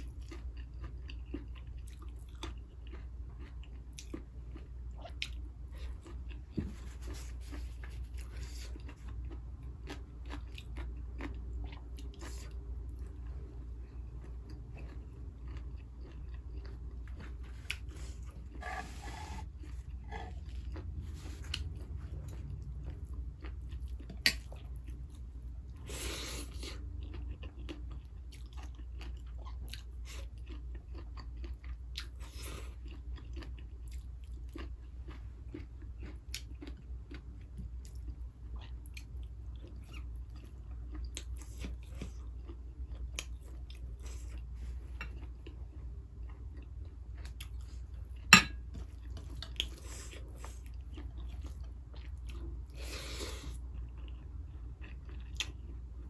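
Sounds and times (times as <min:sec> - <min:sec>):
person chewing and crunching food: 0:00.0 - 0:56.0
steady low hum: 0:00.0 - 0:56.0.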